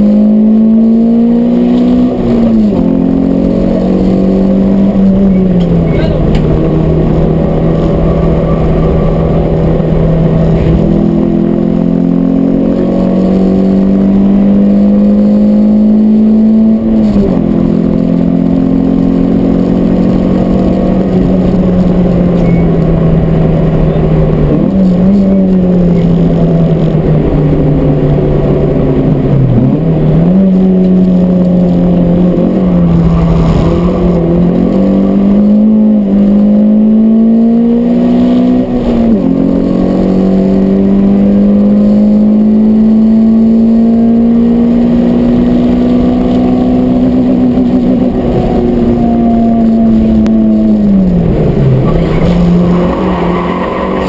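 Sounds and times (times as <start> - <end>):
car engine revving on track: 0.0 - 54.0.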